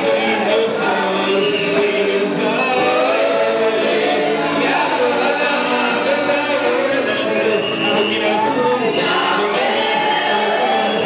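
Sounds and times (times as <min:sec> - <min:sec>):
choir singing in harmony: 0:00.0 - 0:11.0.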